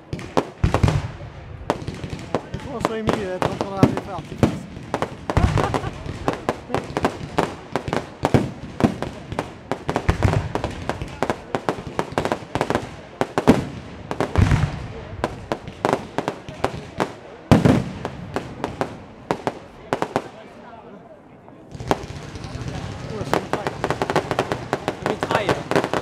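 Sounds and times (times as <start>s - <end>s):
deep firework booms: 0.0s - 20.3s, 21.7s - 26.0s
fireworks bangs and crackling: 0.0s - 20.7s, 21.6s - 26.0s.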